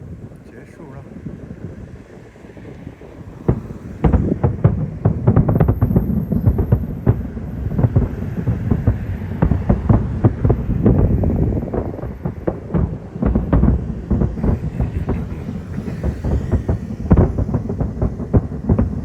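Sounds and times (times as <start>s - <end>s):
fireworks shells booming: 0.0s - 19.0s
low rumble: 0.0s - 19.0s.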